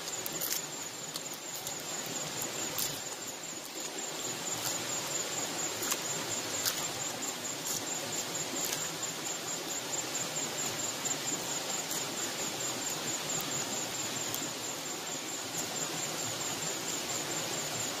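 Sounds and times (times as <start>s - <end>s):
high pulsing insect trill: 0.0s - 18.0s
river water flowing: 0.0s - 18.0s.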